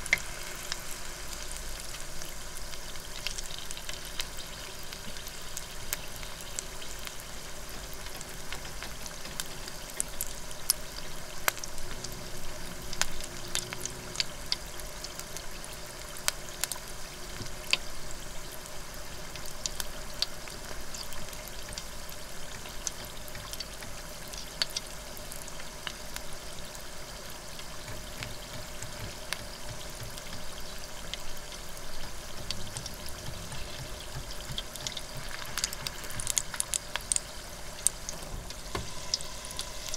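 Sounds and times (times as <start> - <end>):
deep-frying sizzle: 0.0 - 39.9
oil crackles and pops: 0.0 - 39.9.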